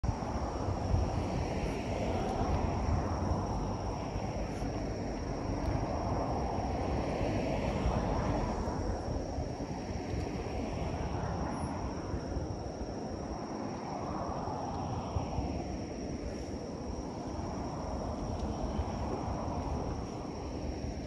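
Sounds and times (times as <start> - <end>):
rush of road traffic: 0.0 - 21.0
cars passing close: 0.1 - 21.0.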